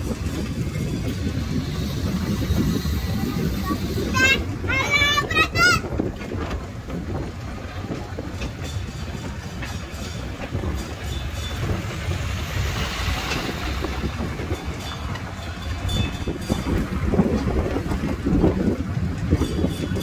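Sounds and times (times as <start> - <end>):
carriages clicking and rattling: 0.0 - 20.0
road train rumbling: 0.0 - 20.0.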